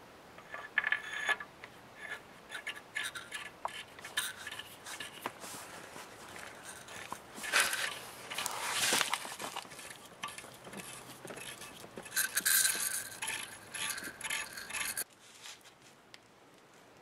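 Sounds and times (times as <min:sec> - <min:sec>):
metal stud scraping and clinking: 0:00.4 - 0:15.1.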